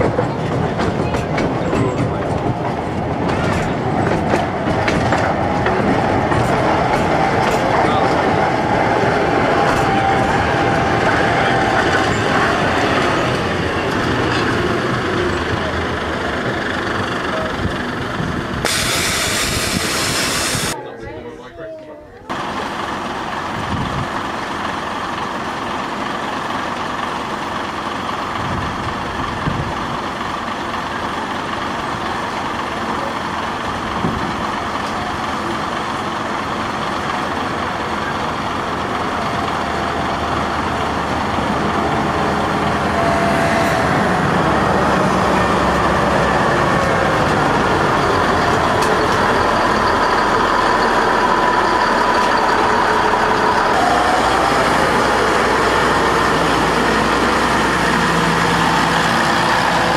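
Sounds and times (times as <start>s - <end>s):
diesel locomotive passing: 0.0s - 59.9s
train running: 0.0s - 59.9s.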